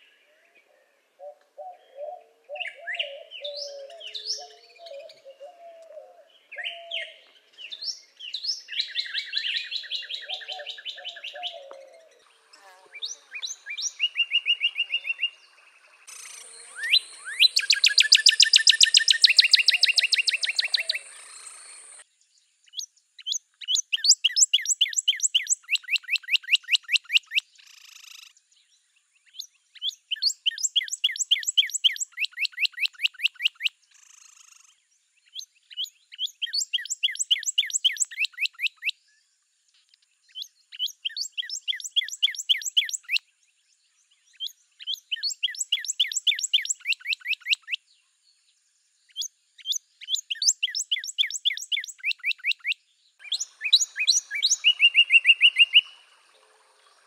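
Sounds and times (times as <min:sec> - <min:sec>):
faint lower bird calls: 0:00.0 - 0:48.2, 0:49.1 - 0:57.0
cardinal singing whistled notes: 0:01.2 - 0:12.2, 0:13.0 - 0:22.0, 0:22.7 - 0:27.4, 0:29.3 - 0:33.7, 0:35.3 - 0:39.0, 0:40.3 - 0:43.2, 0:44.3 - 0:47.8, 0:49.1 - 0:56.4.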